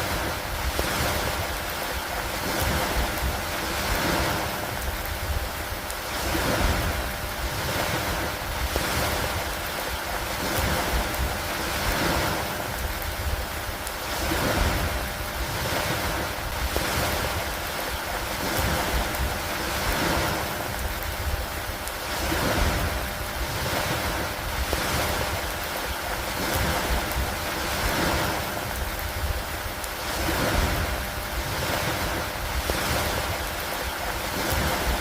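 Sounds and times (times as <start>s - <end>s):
rain on a wooden dock: 0.0s - 35.0s.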